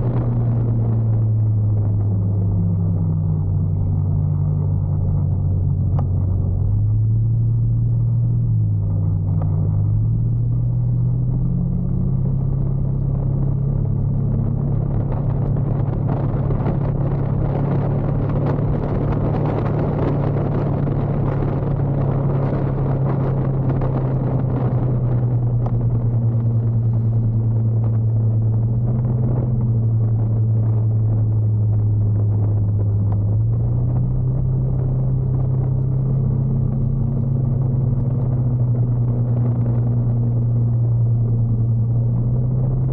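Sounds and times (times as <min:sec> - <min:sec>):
motorcycle engine humming: 0:00.0 - 0:42.9.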